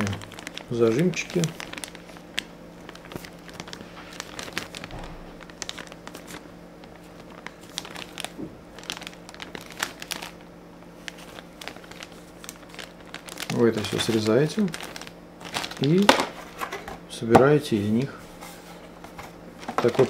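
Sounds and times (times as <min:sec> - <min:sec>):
plastic bag crinkling: 0:00.0 - 0:17.0, 0:17.7 - 0:20.0.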